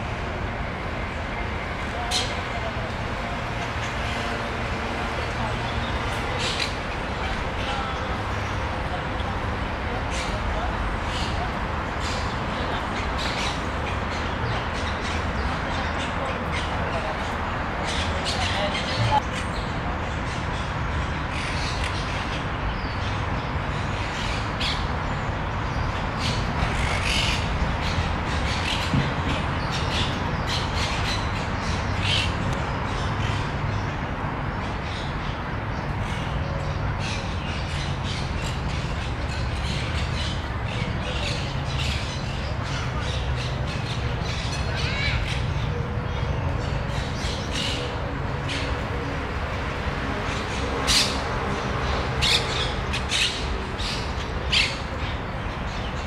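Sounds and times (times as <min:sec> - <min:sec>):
birds squawking and chirping: 0:01.9 - 0:33.9, 0:34.5 - 0:56.0.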